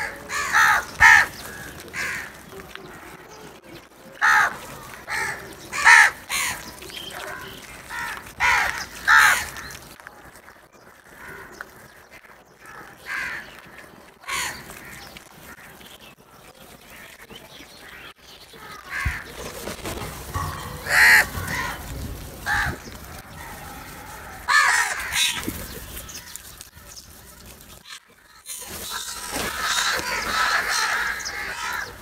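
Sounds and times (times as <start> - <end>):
crows cawing: 0.0 - 3.2, 4.2 - 10.3, 11.0 - 15.8, 17.9 - 19.4, 20.3 - 32.0.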